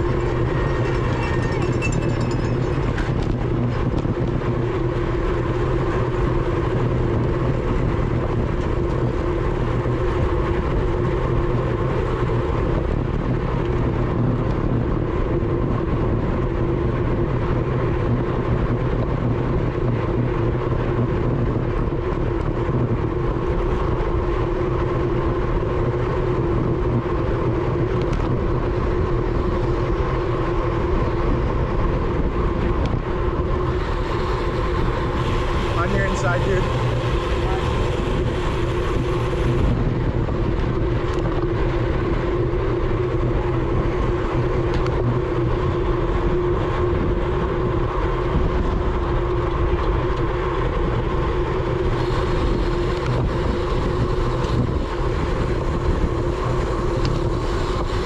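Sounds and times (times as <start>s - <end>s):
tyre and drivetrain hum: 0.0s - 58.0s
wind rushing: 0.0s - 58.0s.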